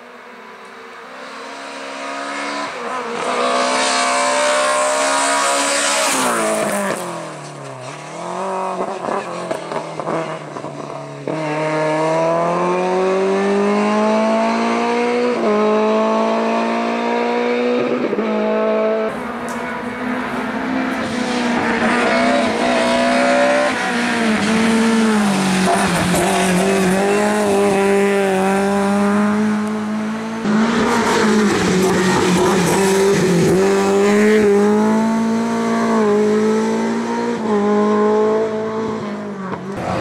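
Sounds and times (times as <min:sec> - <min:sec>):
rally car engine driven hard: 0:01.1 - 0:40.0.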